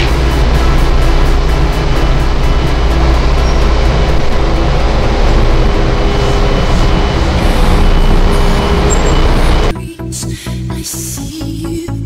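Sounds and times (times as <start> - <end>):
engine-room machinery drone: 0.0 - 12.0.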